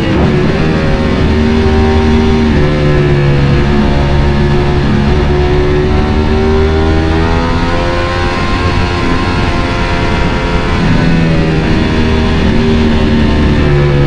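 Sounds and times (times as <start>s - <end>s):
motorcycle engine accelerating: 0.0s - 14.0s
wind noise: 0.0s - 14.0s.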